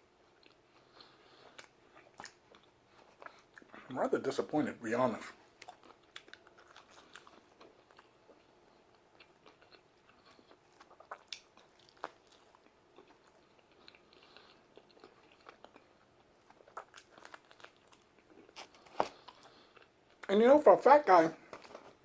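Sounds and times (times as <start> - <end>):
man chewing food: 0.0 - 3.9, 5.2 - 20.3.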